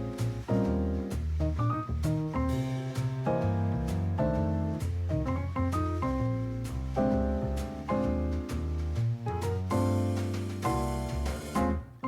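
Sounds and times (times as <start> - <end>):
background music with light beat: 0.0 - 12.0.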